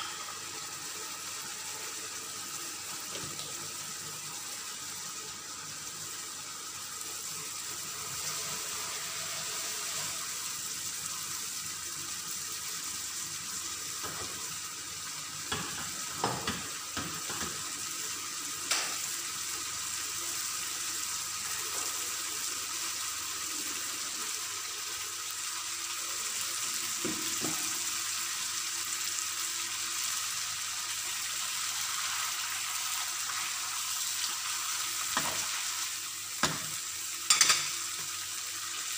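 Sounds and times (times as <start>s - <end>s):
sauce sizzling and bubbling in pan: 0.0s - 38.9s.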